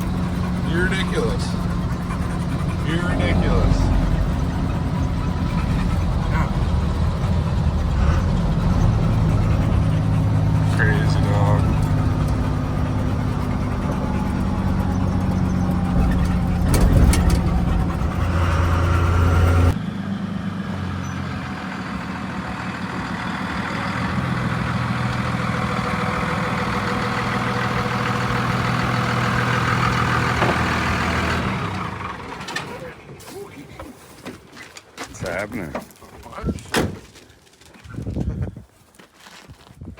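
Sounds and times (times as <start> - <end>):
truck engine drone: 0.0 - 34.2
road noise: 0.0 - 38.1.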